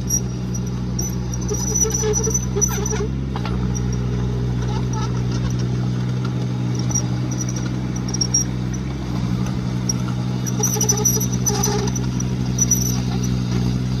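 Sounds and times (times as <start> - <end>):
diesel engine running: 0.0 - 14.0
machine squeaks and clinks: 0.0 - 14.0.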